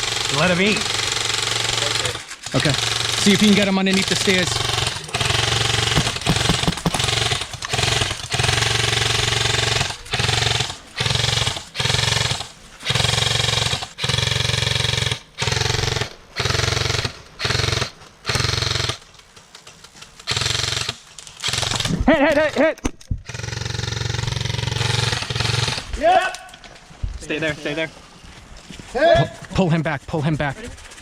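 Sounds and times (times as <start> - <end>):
airsoft rifle bursts: 0.0 - 19.5, 20.1 - 26.6.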